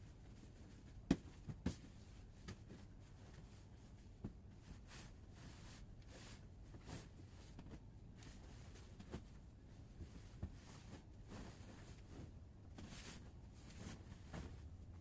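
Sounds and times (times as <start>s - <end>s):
bed sheets rustling: 0.2s - 15.0s.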